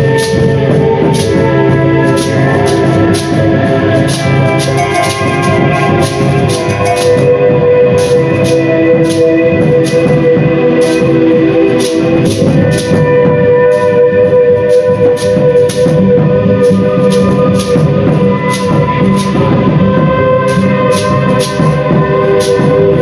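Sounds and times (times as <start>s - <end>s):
droning tones: 0.0s - 23.0s
sharp percussive strikes: 0.0s - 23.0s.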